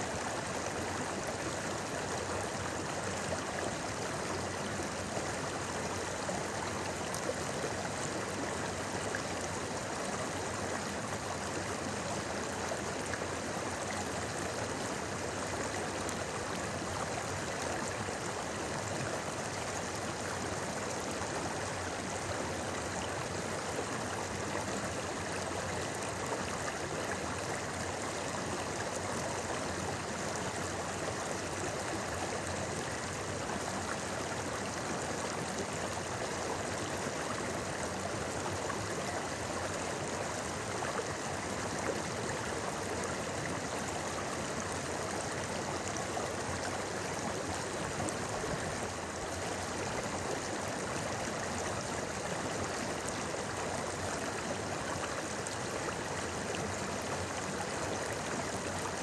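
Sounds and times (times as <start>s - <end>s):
river burbling over stones: 0.1s - 59.0s.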